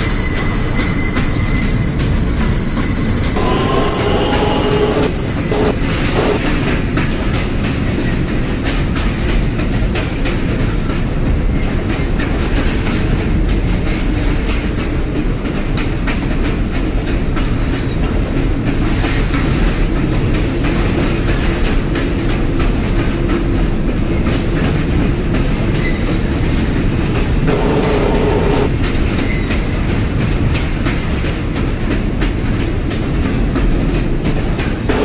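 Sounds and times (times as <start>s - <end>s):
train wheel squeal: 0.0s - 35.0s
train wheels rumbling on rails: 0.0s - 35.0s.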